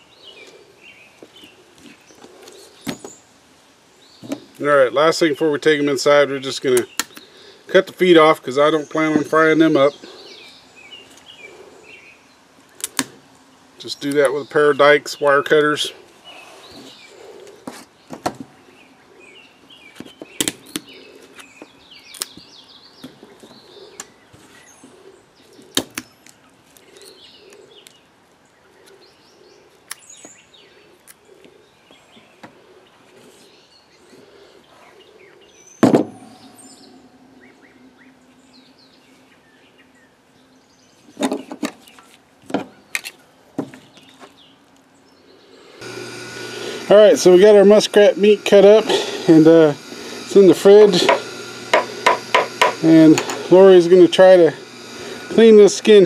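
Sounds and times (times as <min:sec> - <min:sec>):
birds chirping faintly: 0:00.0 - 0:56.0.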